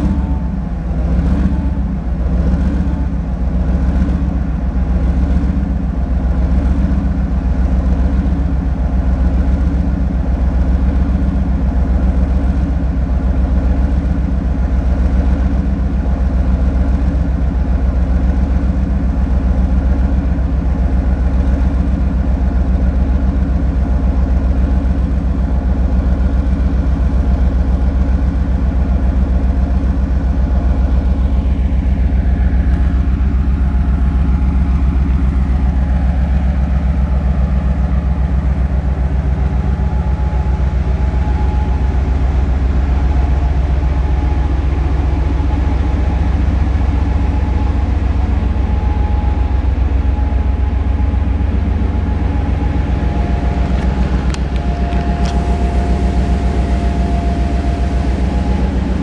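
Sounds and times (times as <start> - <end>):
diesel locomotive engine idling: 0.0 - 59.0.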